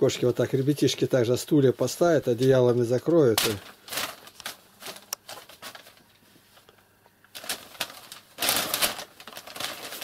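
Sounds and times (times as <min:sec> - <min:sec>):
paper rustling and crinkling: 0:01.8 - 0:10.0.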